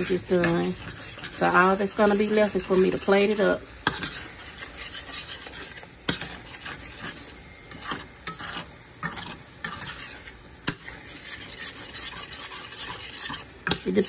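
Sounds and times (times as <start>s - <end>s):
light sizzle: 0.0s - 14.0s
spatula scraping metal skillet: 0.0s - 14.0s.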